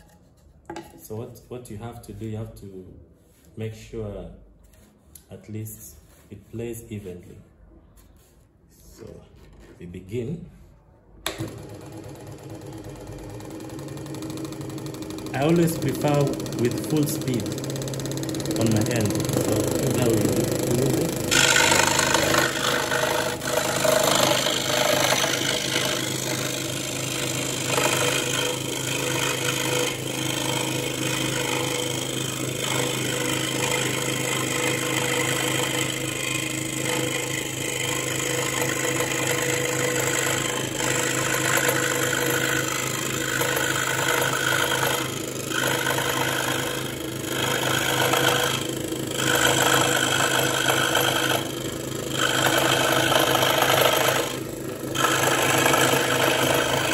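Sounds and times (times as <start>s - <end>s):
scroll saw cutting wood: 11.3s - 56.9s.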